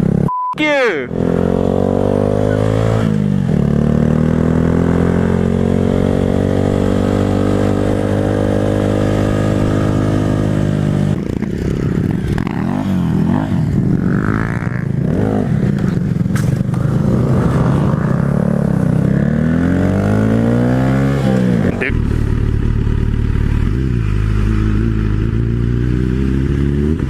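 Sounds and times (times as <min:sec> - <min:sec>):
motorcycle engine revving: 0:01.1 - 0:27.0.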